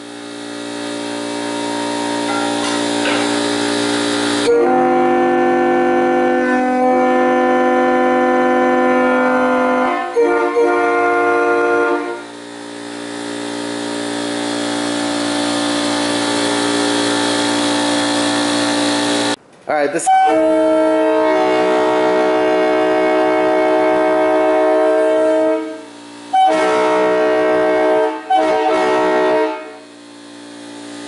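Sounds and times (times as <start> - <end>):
train horn chord: 0.0 - 19.4, 20.0 - 31.0.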